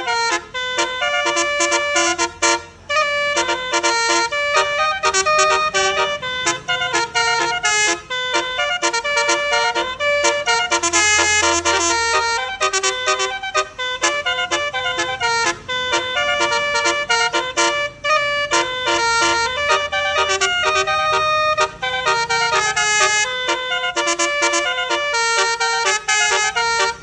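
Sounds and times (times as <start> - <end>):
bus horn playing a tune: 0.0 - 27.0.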